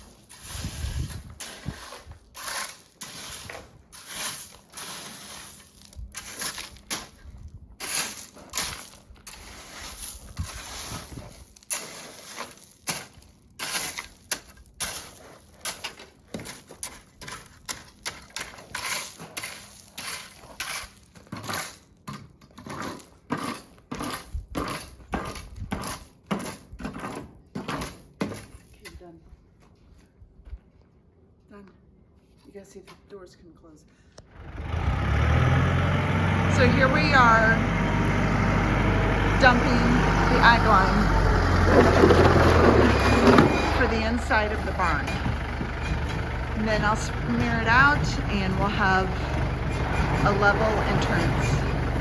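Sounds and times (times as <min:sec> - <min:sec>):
gravel crunching and scraping: 0:00.0 - 0:30.8, 0:34.6 - 0:52.0.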